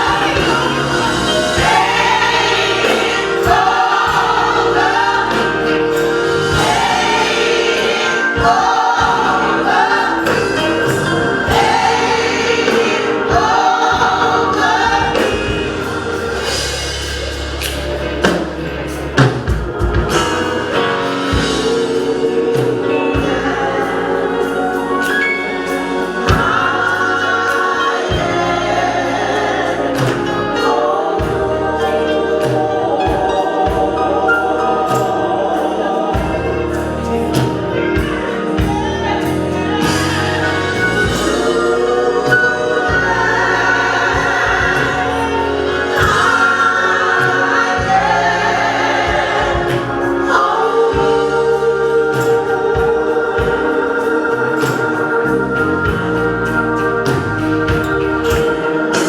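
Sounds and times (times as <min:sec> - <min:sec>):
bass line: 0:00.0 - 0:59.0
choir singing: 0:00.0 - 0:59.0.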